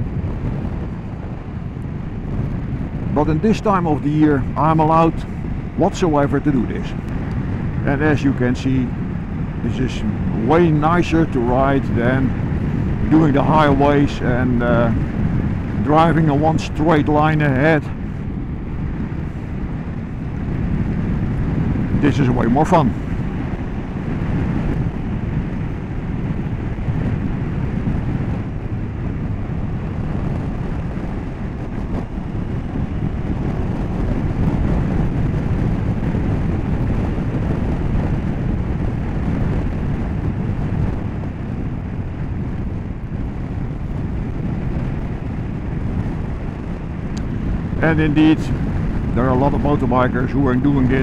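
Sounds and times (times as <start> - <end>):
motorcycle engine rumble: 0.0 - 51.0
wind rush: 0.0 - 51.0.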